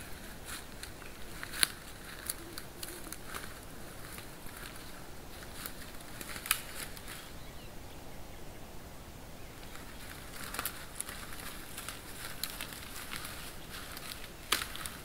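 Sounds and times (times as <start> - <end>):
twigs and dry grass crackling: 0.0 - 7.7, 9.4 - 15.0
steady hiss: 0.0 - 15.0.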